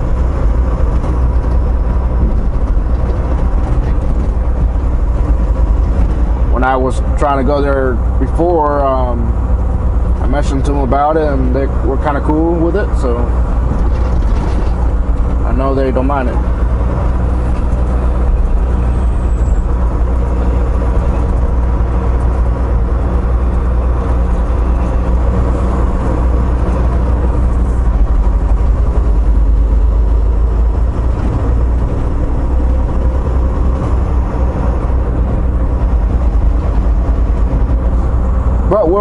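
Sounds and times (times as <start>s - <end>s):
road noise: 0.0s - 39.0s
truck diesel engine drone: 0.0s - 39.0s.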